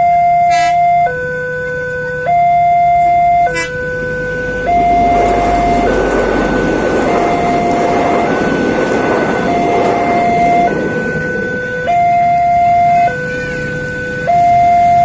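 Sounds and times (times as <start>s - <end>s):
two-tone level crossing siren: 0.0s - 15.0s
train rumbling past: 2.8s - 15.0s.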